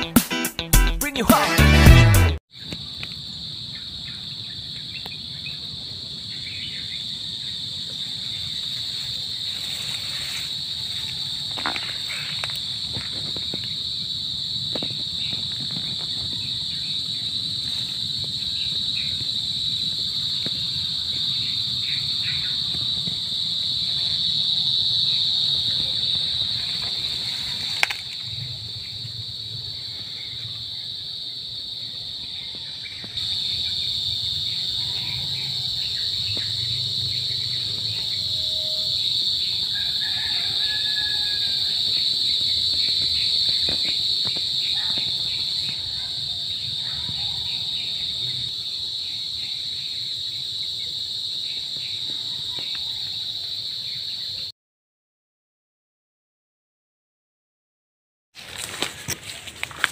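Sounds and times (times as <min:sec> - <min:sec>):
insect chorus drone: 0:02.5 - 0:54.5, 0:58.4 - 0:59.9.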